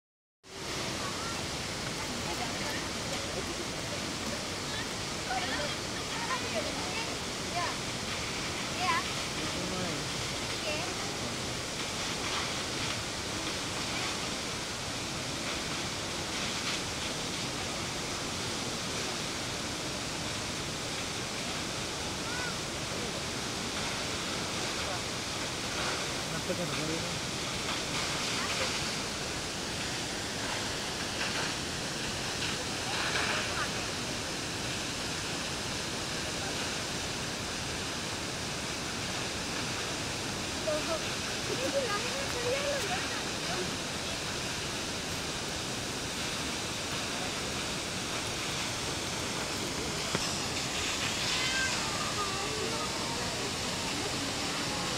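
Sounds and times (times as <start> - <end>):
waterfall rushing into pool: 0.4 - 54.9.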